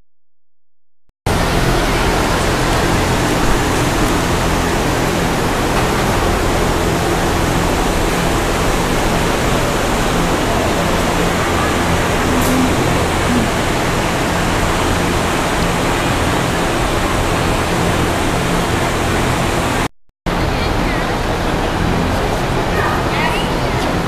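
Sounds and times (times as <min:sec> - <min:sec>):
steady rushing noise with hum: 0:01.3 - 0:22.8.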